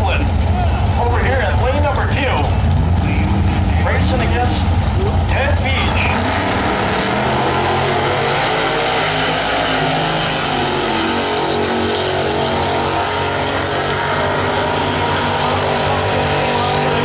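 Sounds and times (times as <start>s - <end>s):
racing car engines accelerating: 0.0s - 17.0s.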